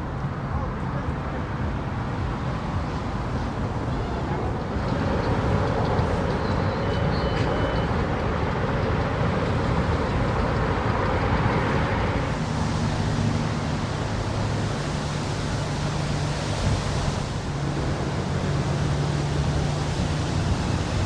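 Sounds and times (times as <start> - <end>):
boat engine humming: 0.0 - 21.0
steady rushing noise: 0.0 - 21.0.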